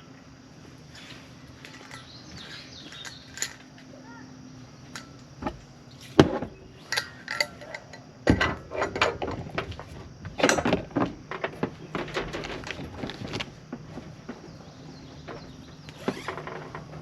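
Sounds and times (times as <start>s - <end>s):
cooking gear knocking and clattering: 1.6s - 3.9s, 4.9s - 17.0s.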